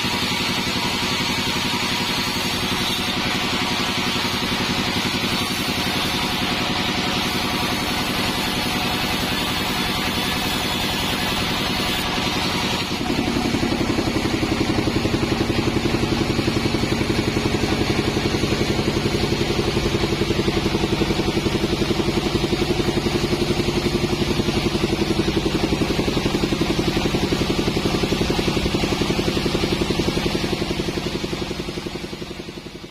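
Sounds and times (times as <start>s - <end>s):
hiss: 0.0s - 32.9s
sawmill machinery running: 0.0s - 32.9s.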